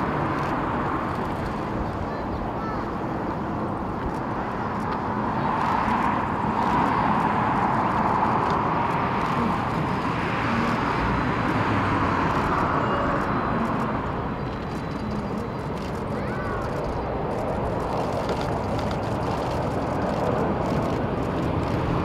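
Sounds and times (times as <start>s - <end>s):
jet engines rush and whine: 0.0s - 22.0s.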